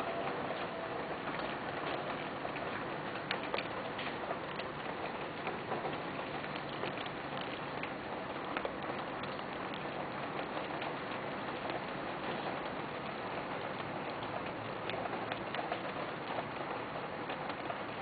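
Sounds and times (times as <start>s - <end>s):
heavy rain: 0.0s - 18.0s
raindrop ticks: 0.0s - 18.0s.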